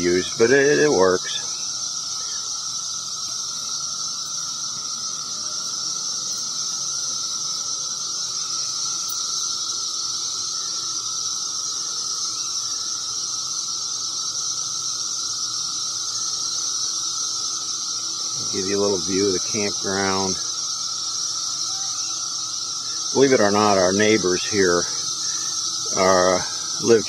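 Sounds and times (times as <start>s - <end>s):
cicadas droning: 0.0s - 27.0s
low steady buzz: 0.0s - 27.0s.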